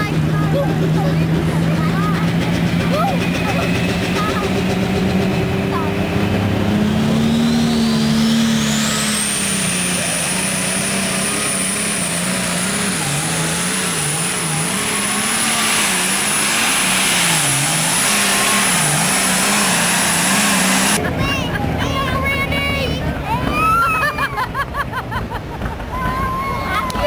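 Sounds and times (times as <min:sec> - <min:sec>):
turbocharger whine: 0:00.0 - 0:21.7
diesel engine note: 0:00.0 - 0:24.0.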